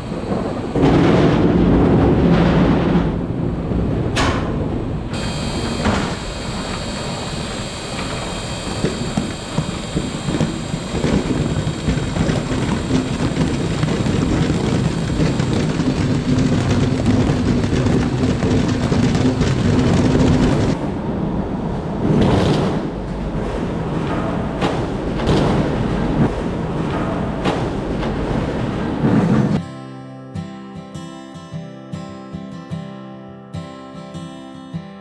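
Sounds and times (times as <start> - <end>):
road and engine rumble: 0.0 - 29.6.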